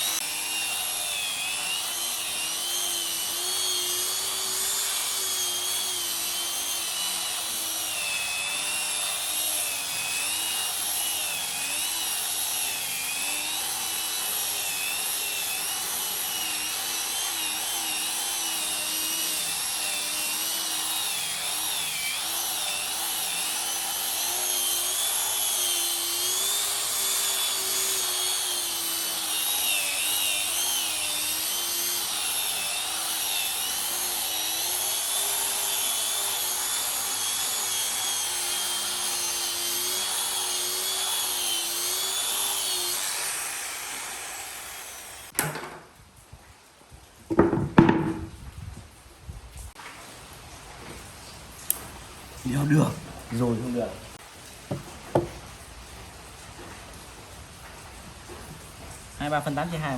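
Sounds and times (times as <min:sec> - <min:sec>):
electric power tool on wood: 0:00.0 - 0:46.0, 0:47.3 - 0:48.4, 0:51.7 - 0:55.4, 0:58.3 - 0:59.9.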